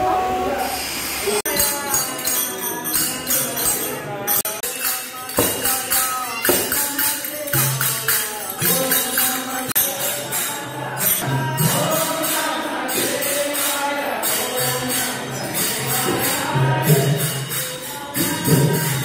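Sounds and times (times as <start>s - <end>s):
person singing: 1.4s - 19.0s
jingling percussion beat: 1.5s - 19.0s.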